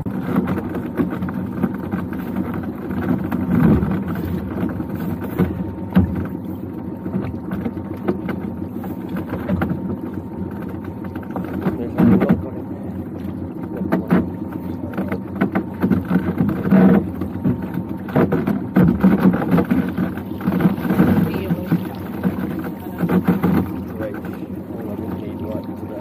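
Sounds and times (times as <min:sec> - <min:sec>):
water slapping against hull: 0:00.0 - 0:26.0.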